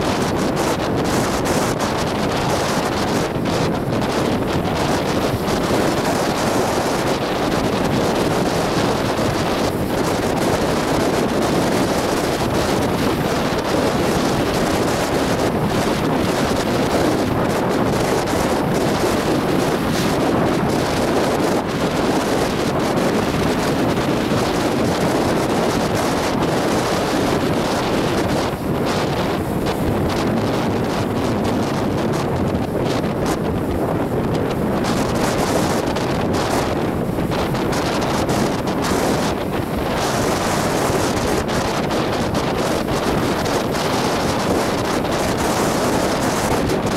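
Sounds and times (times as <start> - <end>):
breaking surf: 0.0 - 46.9
strong wind on microphone: 0.0 - 46.9.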